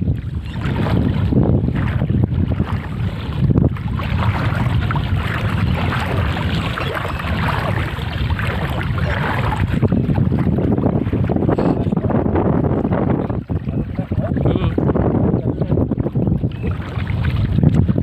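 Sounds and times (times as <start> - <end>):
wading through deep water: 0.0 - 18.0
wind buffeting microphone: 0.0 - 18.0.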